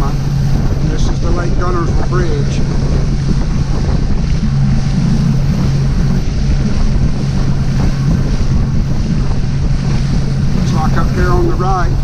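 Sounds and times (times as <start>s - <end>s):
motorboat engine droning: 0.0s - 12.0s
water noise from moving boat: 0.0s - 12.0s
wind buffeting microphone: 0.0s - 12.0s.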